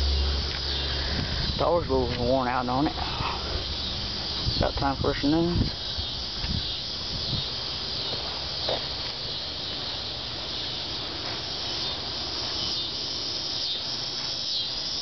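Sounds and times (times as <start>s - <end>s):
low background rumble: 0.0s - 12.4s
insects chirring chorus: 0.0s - 15.0s.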